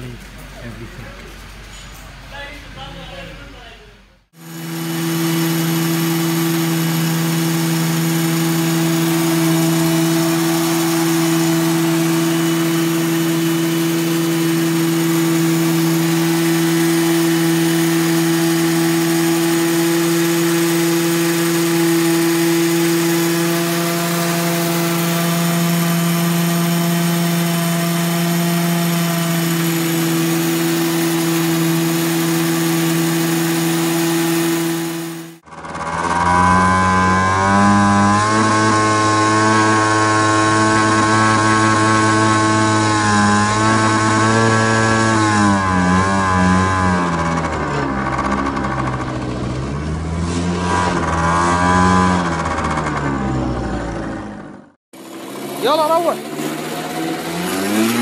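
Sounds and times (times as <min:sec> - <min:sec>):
small petrol engine running: 0:04.3 - 0:58.0.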